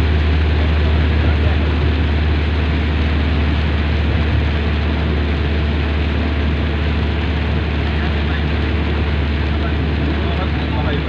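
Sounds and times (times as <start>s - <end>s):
car engine and tyres droning: 0.0s - 11.0s.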